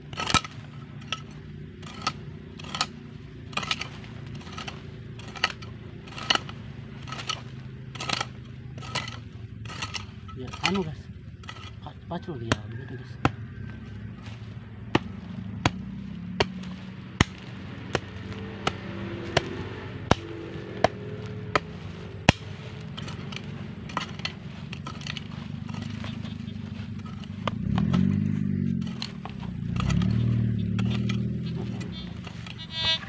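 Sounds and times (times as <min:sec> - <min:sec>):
hoe chopping stony soil: 0:00.0 - 0:32.9
low wavering hum: 0:00.0 - 0:33.0.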